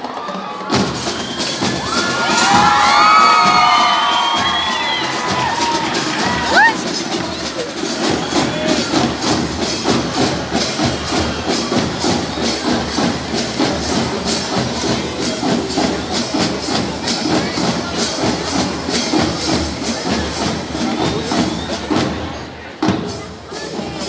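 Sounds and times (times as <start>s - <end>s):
marching band playing: 0.1s - 24.0s
percussion steady beat: 0.1s - 24.0s.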